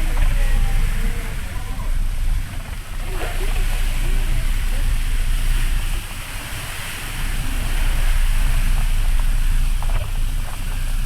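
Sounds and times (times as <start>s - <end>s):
hiss of wind and water: 0.0s - 11.0s
wind buffeting microphone: 0.0s - 11.0s.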